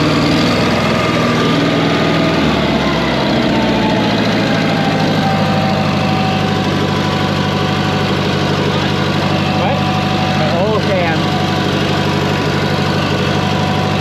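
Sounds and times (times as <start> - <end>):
air-cooled engine idling: 0.0 - 14.0.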